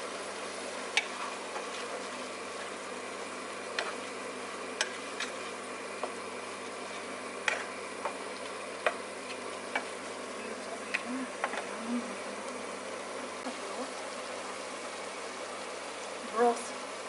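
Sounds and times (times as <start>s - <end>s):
sauce hissing in a pot: 0.0s - 16.2s.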